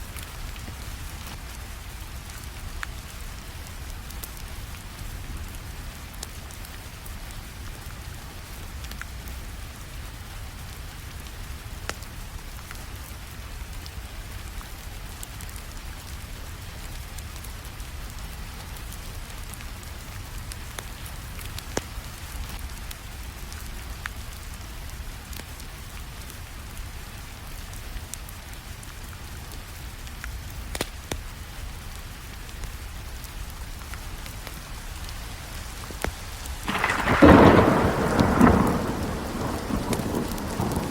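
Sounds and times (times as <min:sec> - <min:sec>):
fireplace crackling and popping: 0:00.0 - 0:26.4, 0:27.9 - 0:40.9
steady rainfall: 0:00.0 - 0:40.9.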